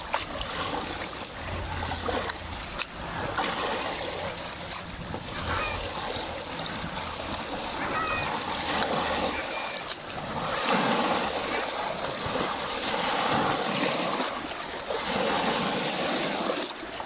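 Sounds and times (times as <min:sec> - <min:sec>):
lake waves washing in: 0:00.0 - 0:17.0.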